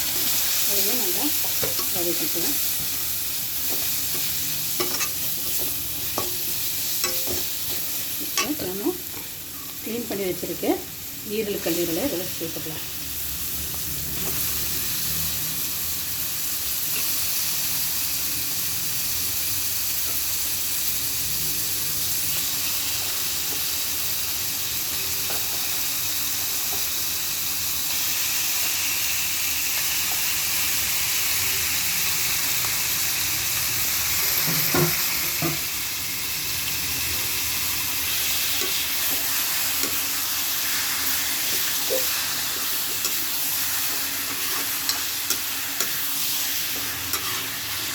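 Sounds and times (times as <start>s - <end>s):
liver sizzling in a pan: 0.0s - 47.9s.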